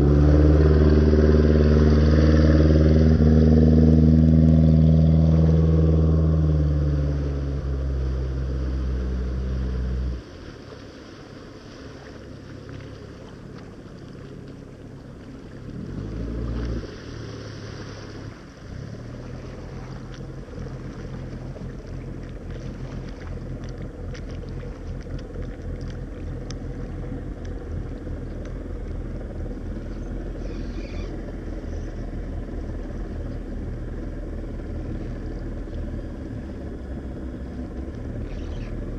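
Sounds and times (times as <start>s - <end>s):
boat engine throttling down to idle: 0.0s - 38.9s.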